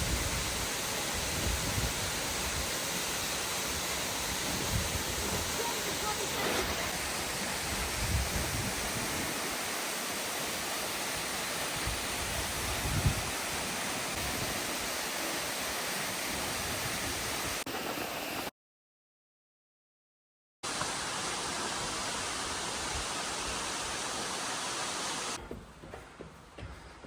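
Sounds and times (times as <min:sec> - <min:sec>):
waterfall rushing: 0:00.0 - 0:18.5, 0:20.7 - 0:25.4.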